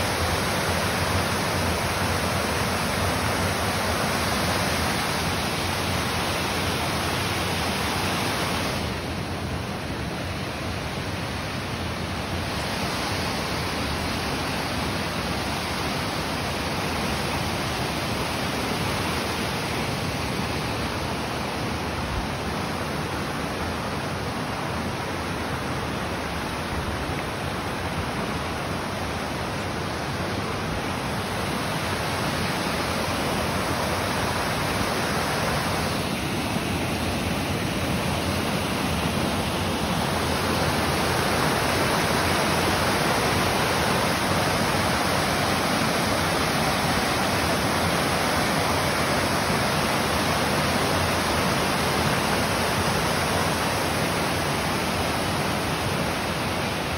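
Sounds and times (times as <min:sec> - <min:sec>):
creek and waterfall rushing: 0:00.0 - 0:56.9.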